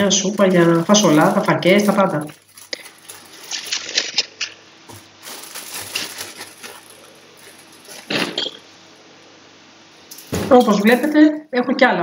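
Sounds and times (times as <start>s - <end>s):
plastic bag crinkling: 0.0s - 8.9s, 10.1s - 11.2s.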